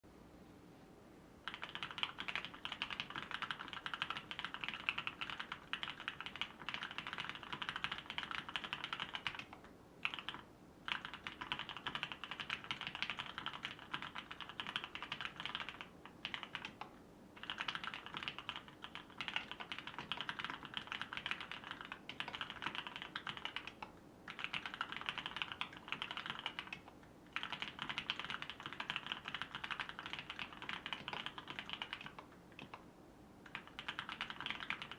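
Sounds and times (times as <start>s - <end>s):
fast typing on mechanical keyboard: 1.4s - 16.8s, 17.4s - 32.8s, 33.5s - 34.9s.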